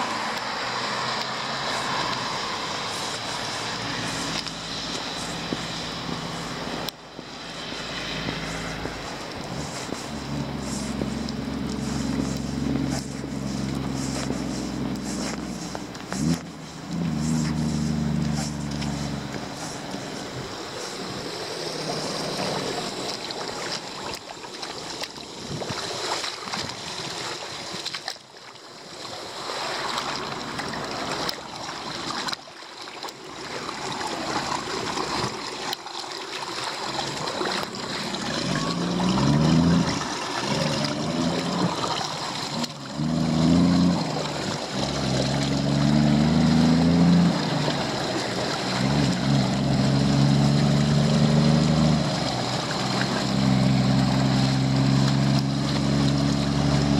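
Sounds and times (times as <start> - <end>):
vehicle engine humming: 0.0 - 25.4, 33.1 - 56.9
rainwater rushing into drain: 0.0 - 56.9.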